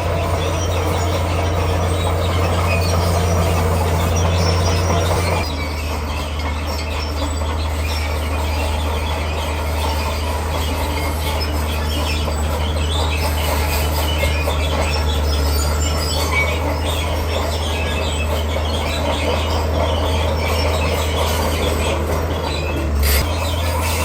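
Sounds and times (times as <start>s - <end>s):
bulldozer diesel engine running: 0.0s - 24.0s
steel tracks clattering and squealing: 0.0s - 24.0s.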